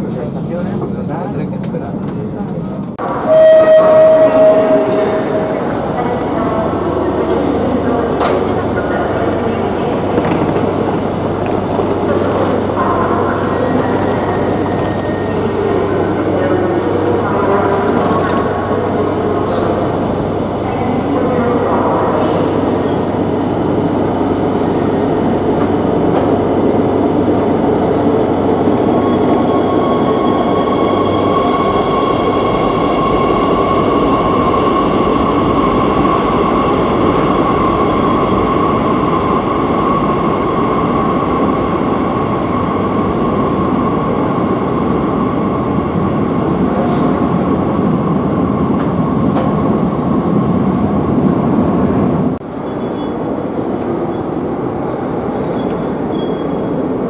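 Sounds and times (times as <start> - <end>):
high train whine: 0.0 - 57.0
train wheels rumbling on rails: 0.0 - 57.0.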